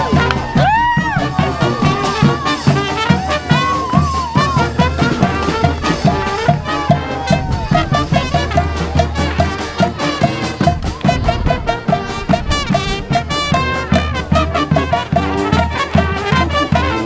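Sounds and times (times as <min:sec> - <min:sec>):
brass horns playing: 0:00.0 - 0:17.0
steady drum beat: 0:00.0 - 0:17.0.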